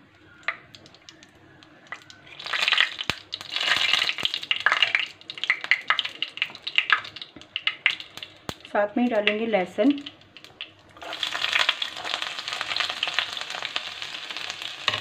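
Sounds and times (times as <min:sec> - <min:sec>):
chillies sizzling in oil: 0:00.3 - 0:15.0.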